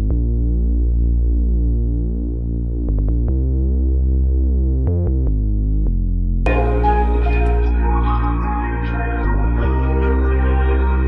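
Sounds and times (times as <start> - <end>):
synthesizer chords over heavy bass: 0.0 - 11.0.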